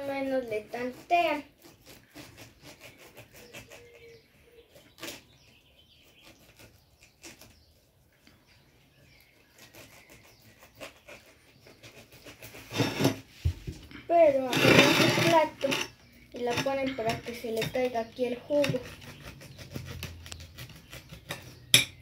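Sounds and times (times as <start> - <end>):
serrated knife sawing through rind: 0.0 - 7.8, 9.2 - 13.3, 14.2 - 22.0.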